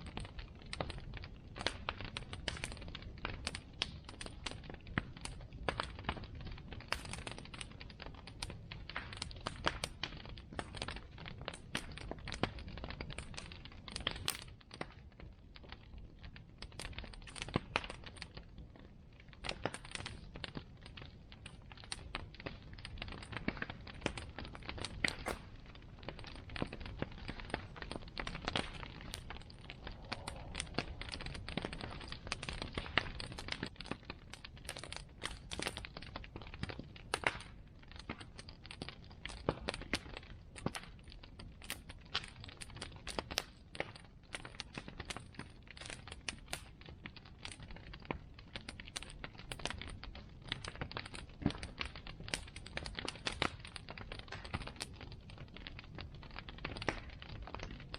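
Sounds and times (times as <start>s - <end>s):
bonfire flame rumble: 0.0s - 57.9s
burning wood crackling: 0.0s - 57.9s.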